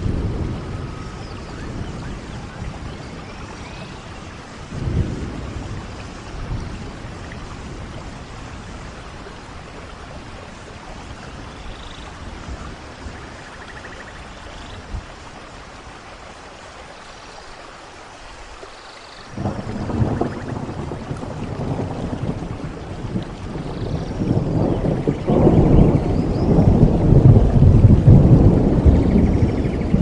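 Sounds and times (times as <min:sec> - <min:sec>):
thunder rumbling: 0:00.0 - 0:15.2, 0:19.3 - 0:30.0
steady rainfall: 0:00.0 - 0:30.0.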